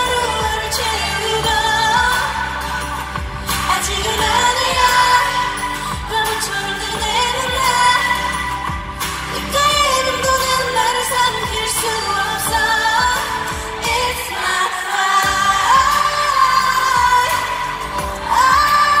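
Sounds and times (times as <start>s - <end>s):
pop backing track over pa: 0.0s - 19.0s
woman singing live: 0.0s - 19.0s.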